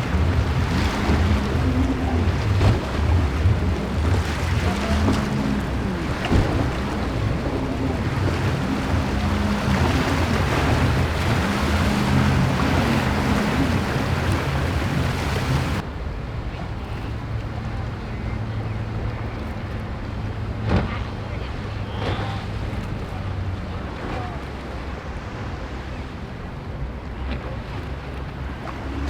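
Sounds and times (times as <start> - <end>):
heavy wind: 0.0 - 29.0
powerboat engines: 0.0 - 29.0
surf noise: 0.0 - 29.0.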